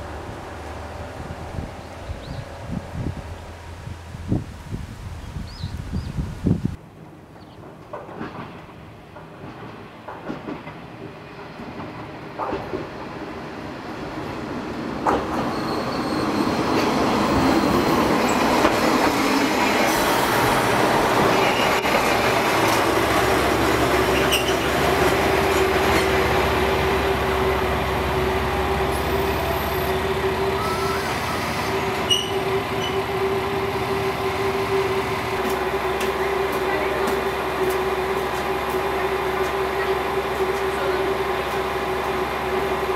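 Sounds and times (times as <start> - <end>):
diesel railcar engine and wheels: 0.0 - 42.9.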